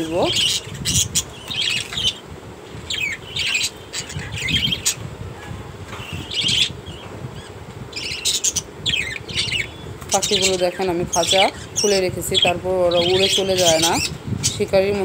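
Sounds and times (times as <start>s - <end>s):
budgerigars squawking: 0.1s - 2.2s, 2.9s - 5.0s, 6.0s - 14.6s.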